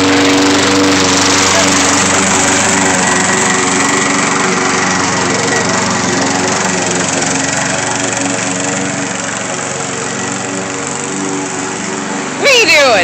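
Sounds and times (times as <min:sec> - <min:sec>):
lawn mower running: 0:00.0 - 0:13.0.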